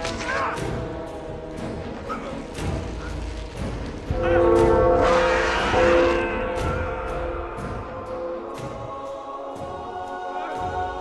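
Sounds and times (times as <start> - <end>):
quiet orchestral film score: 0.0 - 11.0.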